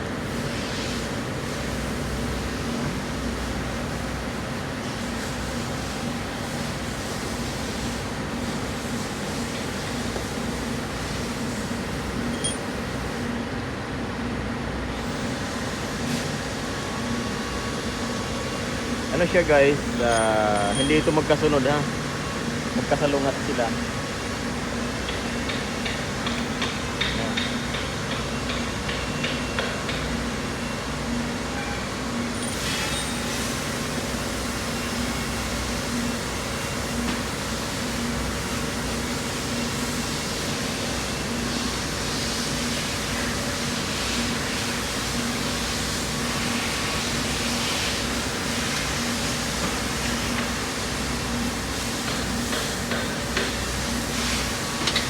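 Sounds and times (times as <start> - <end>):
mechanical hum and rumble: 0.0 - 55.0.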